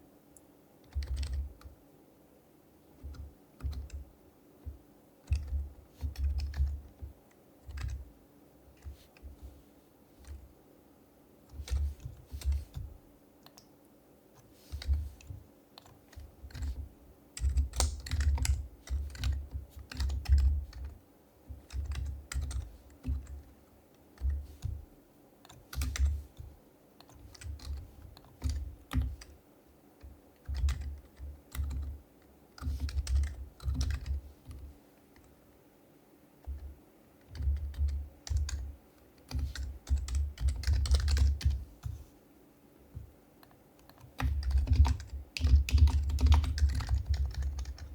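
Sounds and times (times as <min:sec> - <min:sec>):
soft keyboard typing: 0:00.4 - 0:01.8, 0:02.8 - 0:09.6, 0:10.2 - 0:10.5, 0:11.4 - 0:13.8, 0:14.4 - 0:29.4, 0:30.0 - 0:35.4, 0:36.4 - 0:42.0, 0:42.9 - 0:47.9.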